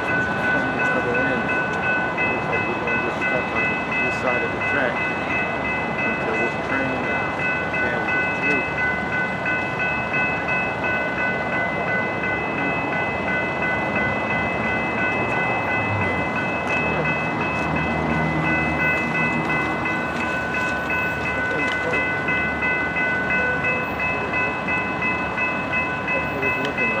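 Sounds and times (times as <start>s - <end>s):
constant rushing noise: 0.0s - 27.0s
crossing bell ringing: 0.0s - 27.0s.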